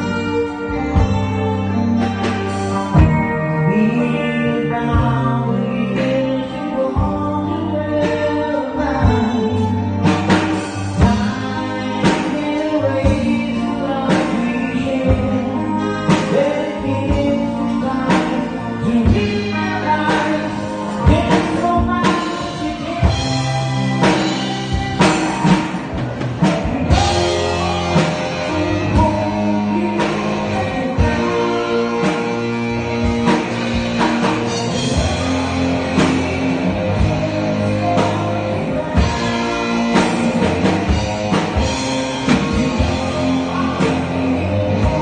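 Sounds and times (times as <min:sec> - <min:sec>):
drum kit steady beat: 0:00.0 - 0:05.4, 0:06.0 - 0:45.0
electric guitar: 0:00.0 - 0:45.0
person singing: 0:00.0 - 0:45.0.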